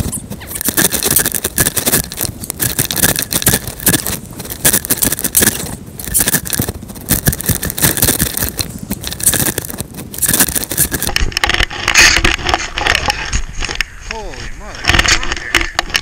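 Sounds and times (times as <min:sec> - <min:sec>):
fabric rustling on microphone: 0:00.0 - 0:13.8.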